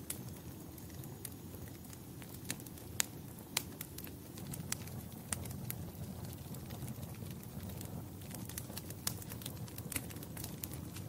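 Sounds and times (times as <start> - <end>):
fire pops: 0.0 - 11.0
rumble of flame: 0.0 - 11.0
wood fire crackling: 0.0 - 11.0.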